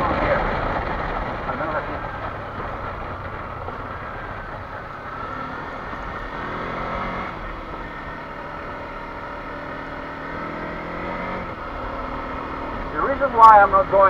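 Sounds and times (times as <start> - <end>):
motorcycle engine running: 0.0 - 14.0
tyres on gravel road: 0.0 - 14.0.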